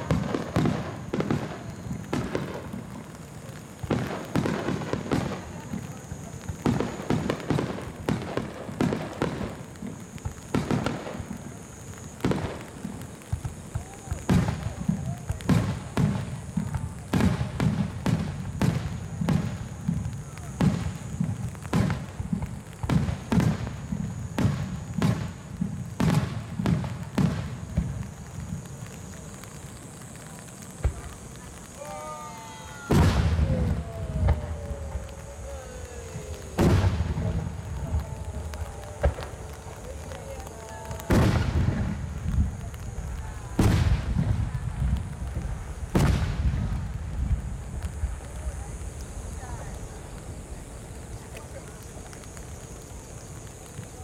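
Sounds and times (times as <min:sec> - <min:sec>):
fireworks booming: 0:00.0 - 0:54.0
rain on an umbrella: 0:00.0 - 0:54.0.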